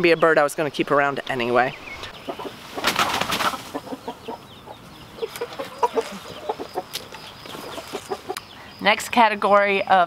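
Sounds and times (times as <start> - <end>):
chickens clucking: 0.0 - 8.8.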